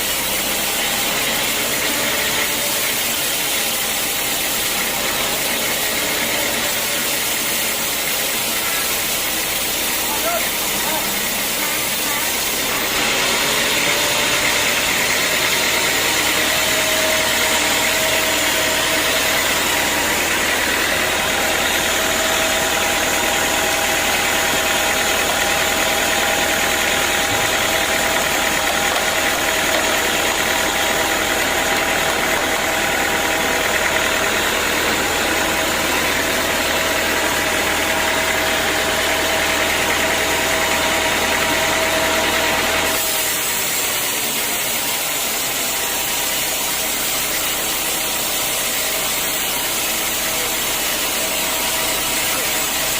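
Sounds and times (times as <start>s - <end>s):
sawmill saw whining: 0.0s - 52.9s.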